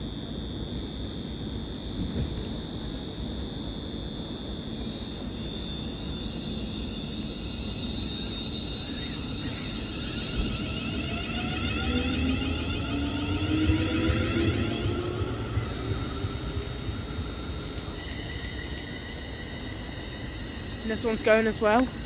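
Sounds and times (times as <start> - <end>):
train electric motor whine: 0.0 - 22.0
train low rumble: 0.0 - 22.0.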